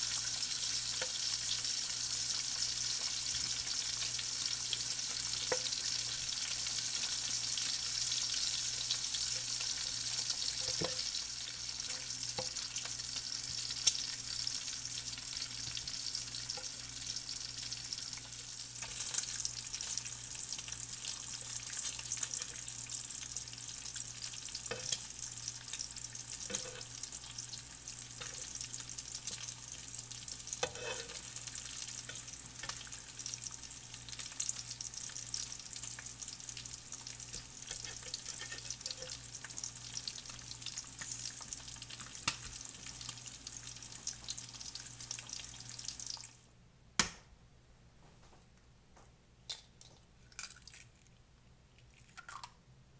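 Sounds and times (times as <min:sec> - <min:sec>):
bacon sizzling and popping: 0:00.0 - 0:46.4, 0:49.5 - 0:51.0, 0:51.9 - 0:52.5.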